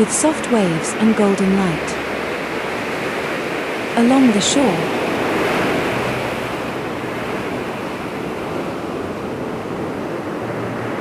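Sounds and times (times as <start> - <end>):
sea surf washing onto beach: 0.0 - 11.0.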